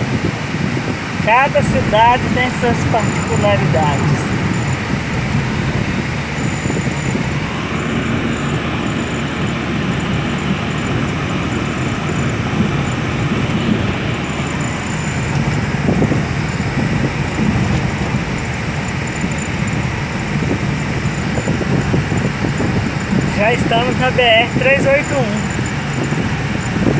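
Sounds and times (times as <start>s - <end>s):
car road and engine noise: 0.0s - 26.9s.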